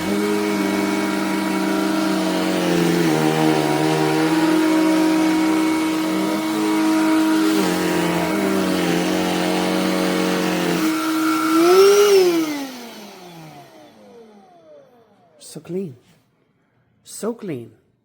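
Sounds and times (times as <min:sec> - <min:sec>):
handheld vacuum motor whine: 0:00.0 - 0:15.4.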